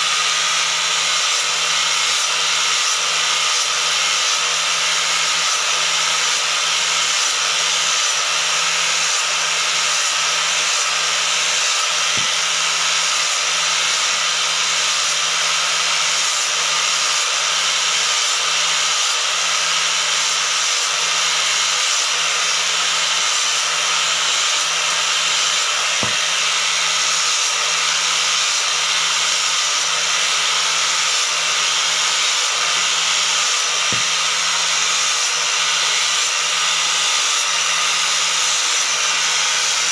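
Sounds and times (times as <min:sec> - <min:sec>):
angle grinder grinding wood: 0:00.0 - 0:39.9.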